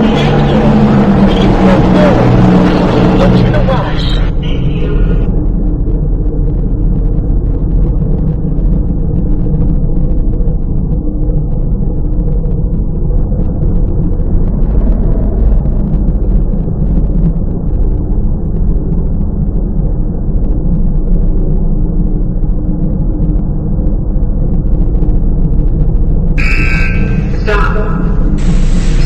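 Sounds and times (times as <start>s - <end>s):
car wash machinery rumble: 0.0s - 29.0s.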